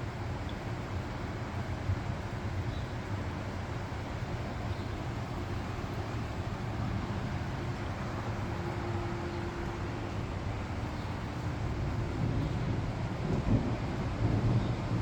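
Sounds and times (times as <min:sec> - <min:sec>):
heavy rain falling: 0:00.1 - 0:15.0.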